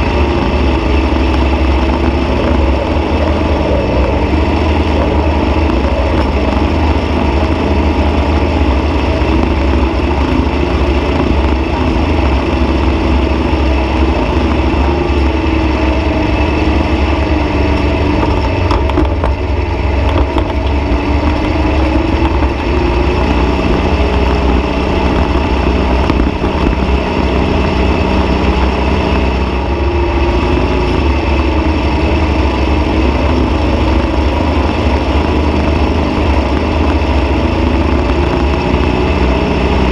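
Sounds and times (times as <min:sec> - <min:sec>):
dune buggy engine running: 0:00.0 - 0:39.9.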